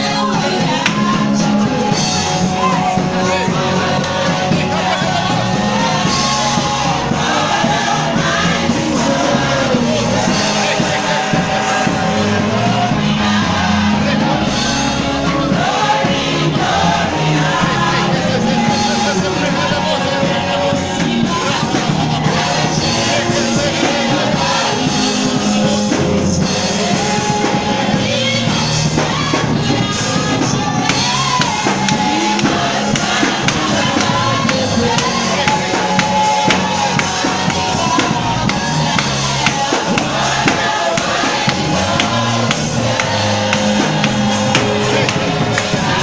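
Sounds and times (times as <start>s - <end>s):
choir singing gospel: 0.0s - 46.0s
steady beat: 0.1s - 13.5s, 21.0s - 46.0s.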